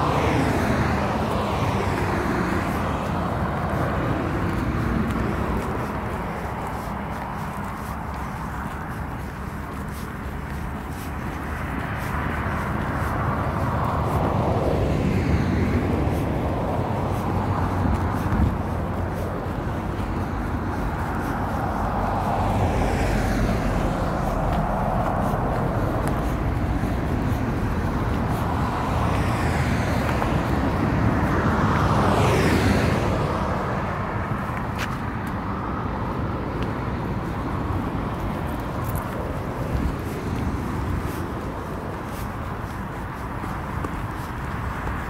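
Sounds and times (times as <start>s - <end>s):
cars passing: 0.0s - 45.0s
traffic rumble: 0.0s - 45.0s.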